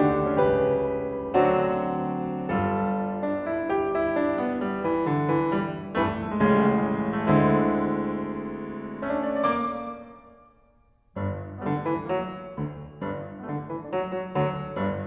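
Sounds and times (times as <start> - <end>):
solo piano playing classical music: 0.0 - 15.0.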